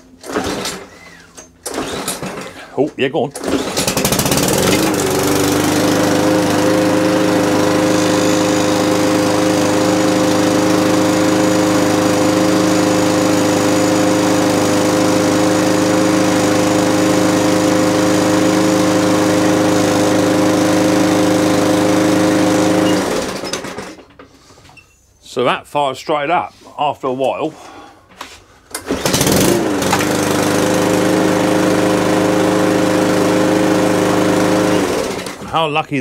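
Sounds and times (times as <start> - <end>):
lawnmower engine running: 0.0 - 24.5, 28.7 - 35.8.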